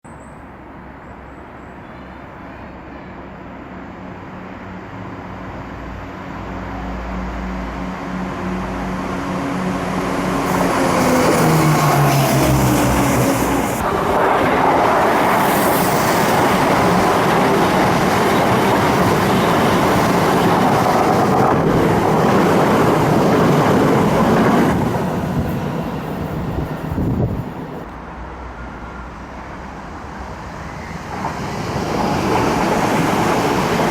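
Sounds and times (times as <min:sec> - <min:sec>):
train hum: 0:00.4 - 0:33.9.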